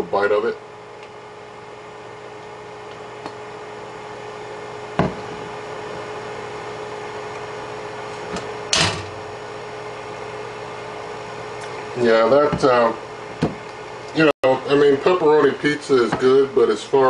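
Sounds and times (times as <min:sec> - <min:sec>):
air fryer fan hum: 0:00.0 - 0:17.0.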